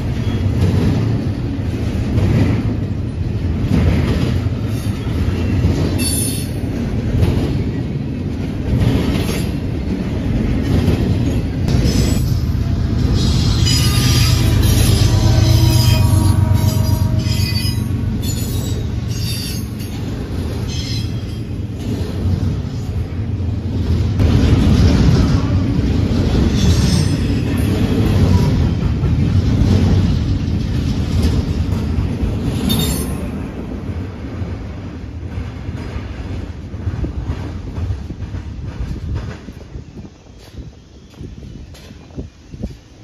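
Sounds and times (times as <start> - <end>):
freight train rumbling: 0.0 - 43.0
train wheels clicking on rail joints: 0.0 - 43.0.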